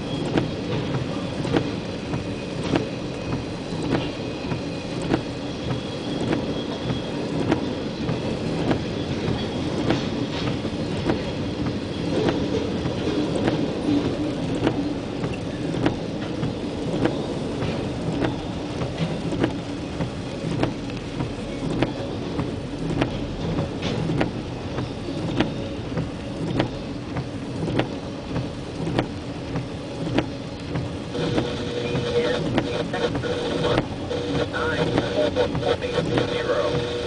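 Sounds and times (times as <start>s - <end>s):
freight train rumble: 0.0s - 37.0s
rain hiss: 0.0s - 37.0s.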